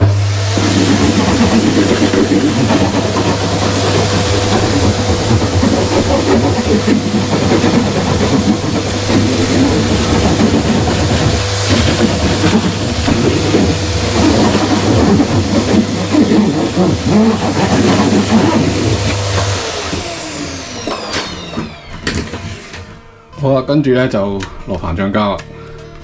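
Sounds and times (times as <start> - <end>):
vacuum cleaner running: 0.0 - 24.6.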